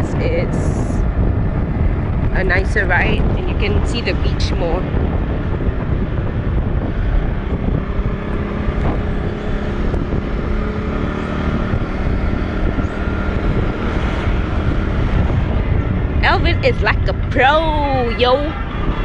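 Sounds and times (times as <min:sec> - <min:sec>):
road noise: 0:00.0 - 0:19.0
wind rushing over microphone: 0:00.0 - 0:19.0.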